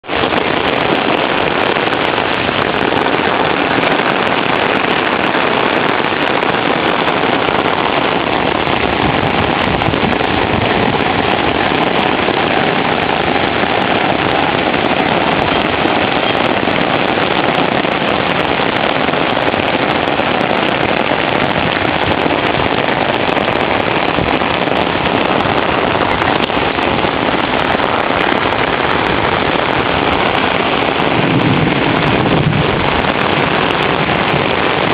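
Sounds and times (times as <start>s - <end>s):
raindrops striking hard surfaces: 0.0s - 34.9s
steady rain: 0.0s - 34.9s.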